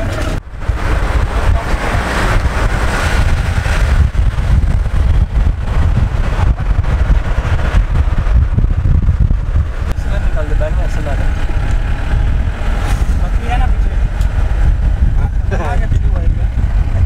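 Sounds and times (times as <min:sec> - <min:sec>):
engine and tyres rumbling: 0:00.0 - 0:17.0
wind noise: 0:00.0 - 0:17.0.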